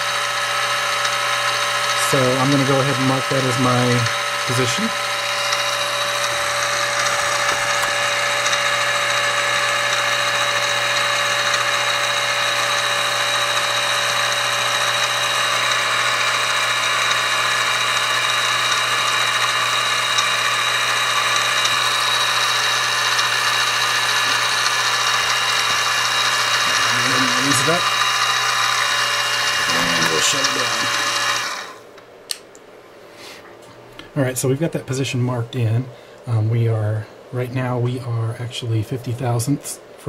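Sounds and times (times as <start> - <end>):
milling machine motor whine: 0.0 - 32.1.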